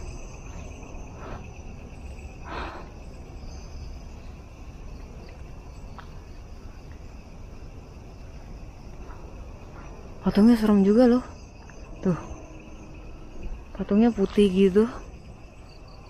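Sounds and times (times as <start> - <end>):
crickets and night insects trilling: 0.0 - 16.0.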